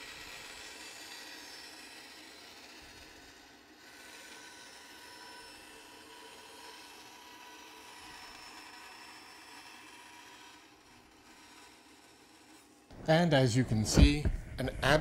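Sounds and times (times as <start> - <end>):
bandsaw cutting wood: 0.0 - 15.0.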